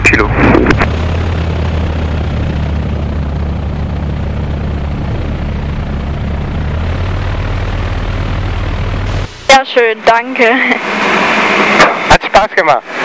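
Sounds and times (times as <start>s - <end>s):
aircraft propeller engine droning: 0.0s - 13.0s.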